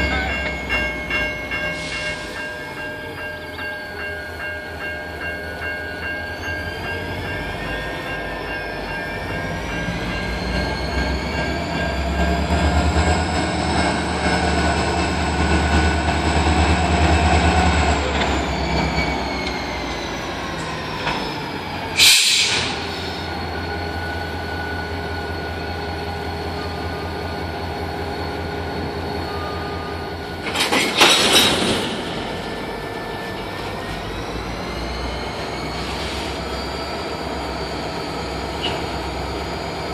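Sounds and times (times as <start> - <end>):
diesel locomotives throbbing: 0.0 - 39.9.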